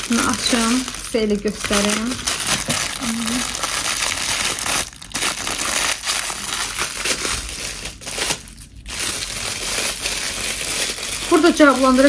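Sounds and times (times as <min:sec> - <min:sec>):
packaging rustling and tearing: 0:00.0 - 0:12.0.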